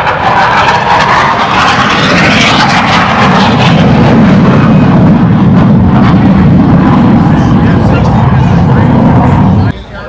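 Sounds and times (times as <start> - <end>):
fighter jet engine roaring: 0.0 - 9.8.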